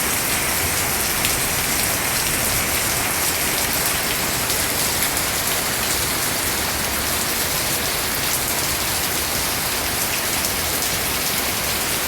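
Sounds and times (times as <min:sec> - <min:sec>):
rain drops pattering: 0:00.0 - 0:12.0
rain falling on leaves: 0:00.0 - 0:12.0.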